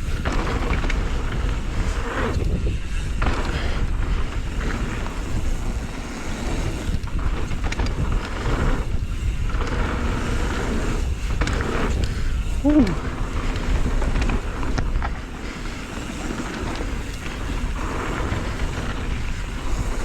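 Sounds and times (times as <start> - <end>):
bike tyres rolling on dirt: 0.0 - 20.0
wind buffeting microphone: 0.0 - 20.0.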